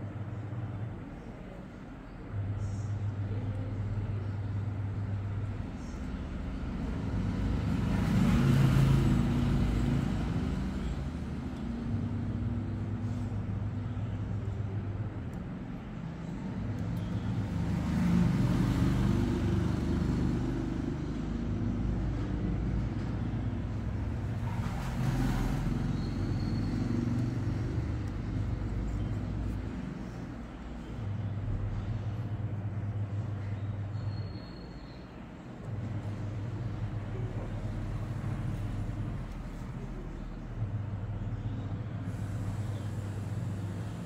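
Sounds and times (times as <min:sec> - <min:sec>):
traffic engine hum: 0:00.0 - 0:44.0
vehicles passing: 0:00.0 - 0:44.0.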